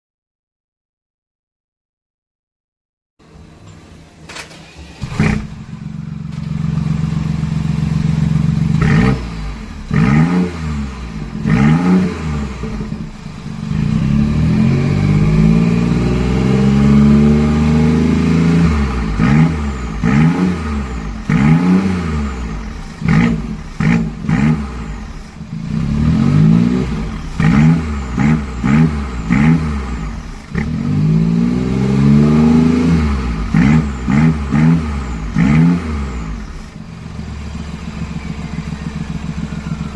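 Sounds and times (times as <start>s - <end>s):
car engine revving: 4.6s - 39.9s.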